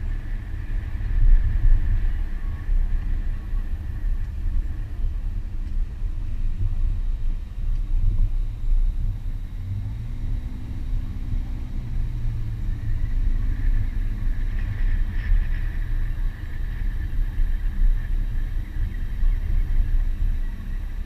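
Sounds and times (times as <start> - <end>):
car engine rumbling: 0.0 - 21.0
high steady hum: 0.0 - 21.0.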